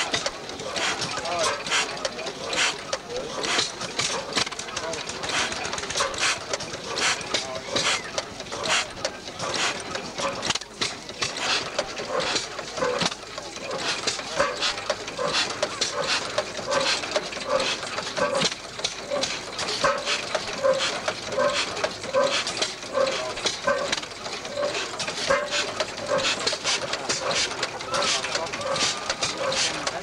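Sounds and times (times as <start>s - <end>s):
stationary engine clattering: 0.0s - 30.0s.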